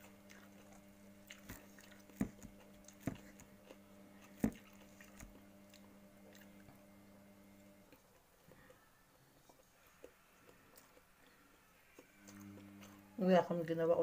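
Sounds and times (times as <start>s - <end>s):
person chewing: 0.0s - 6.7s, 7.8s - 13.0s
low hum: 0.0s - 14.0s.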